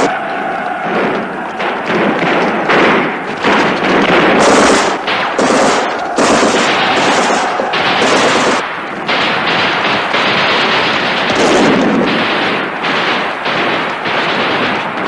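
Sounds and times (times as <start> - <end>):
machine-gun and rifle fire: 0.0 - 15.0.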